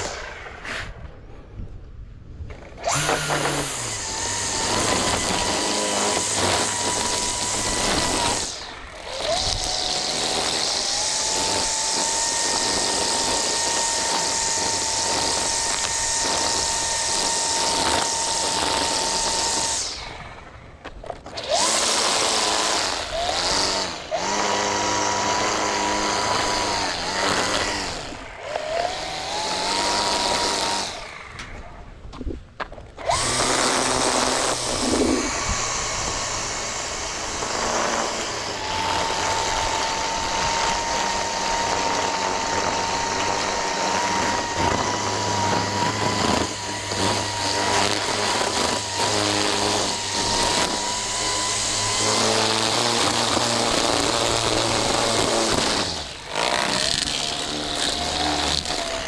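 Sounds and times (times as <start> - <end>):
string trimmer whining: 0.0 - 1.4, 2.5 - 32.0, 32.9 - 59.0.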